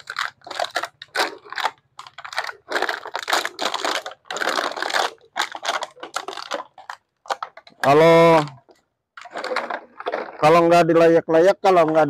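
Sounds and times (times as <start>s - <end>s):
plastic bottles crunching underfoot: 0.0s - 12.0s.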